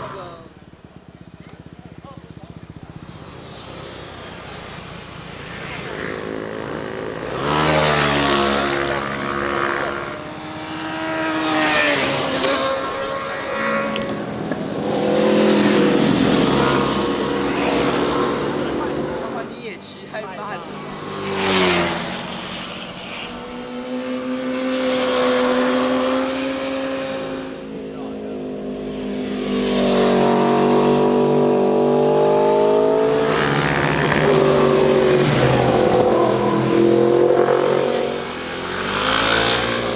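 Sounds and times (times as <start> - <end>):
motorcycles passing by: 0.0 - 39.9.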